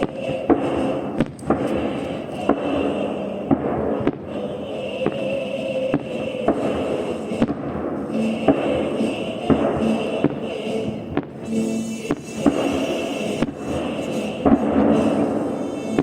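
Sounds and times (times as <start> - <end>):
continuous background noise: 0.0 - 16.0
fireworks bangs: 0.0 - 16.0.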